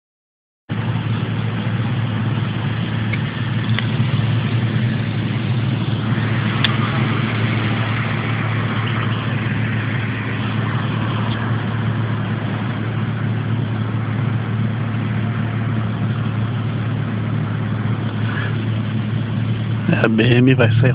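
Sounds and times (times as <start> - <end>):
car engine idling: 0.7 - 20.9.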